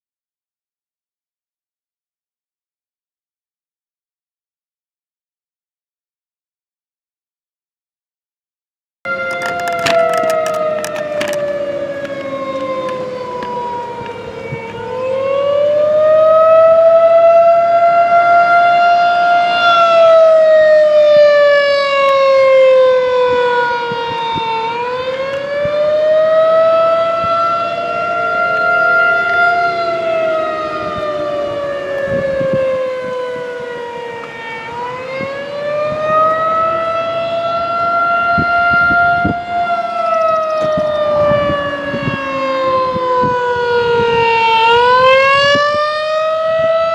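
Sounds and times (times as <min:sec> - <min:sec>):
wailing warning siren: 0:09.1 - 0:46.9.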